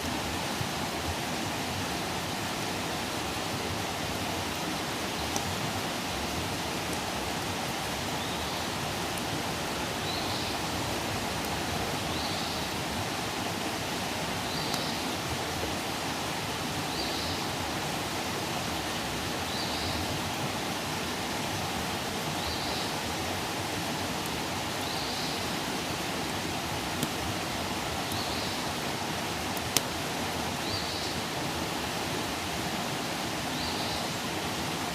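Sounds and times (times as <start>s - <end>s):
campfire hissing and crackling: 0.0s - 34.9s.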